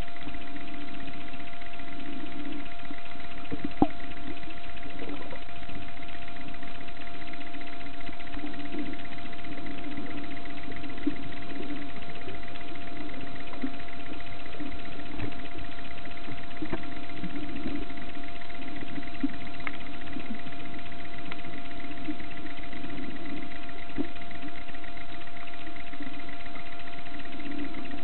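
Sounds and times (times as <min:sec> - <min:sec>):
faint clicks: 0:00.0 - 0:28.0
underwater mechanical hum: 0:00.0 - 0:28.0.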